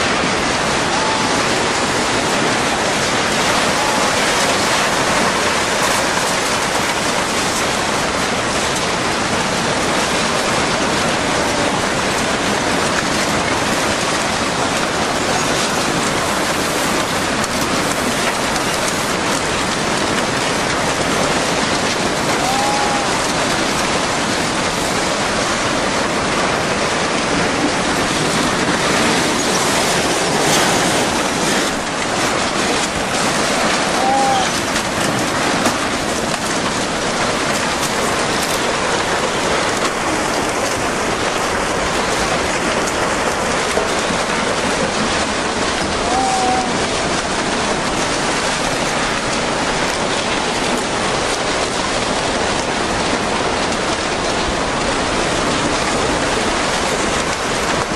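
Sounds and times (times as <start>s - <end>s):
rushing water and debris: 0.0s - 57.9s.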